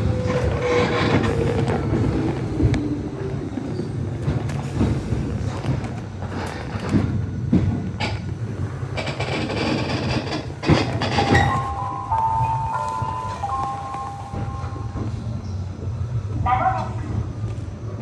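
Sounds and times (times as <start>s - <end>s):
wheels clacking over rail joints: 0.0s - 17.8s
train wheels rumbling on rails: 0.0s - 18.0s.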